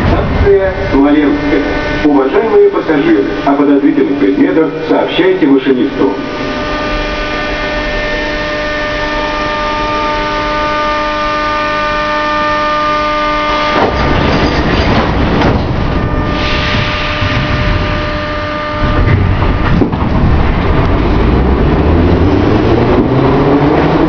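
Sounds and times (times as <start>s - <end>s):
metro car electrical hum: 0.0s - 23.1s
train rumbling: 0.0s - 24.0s.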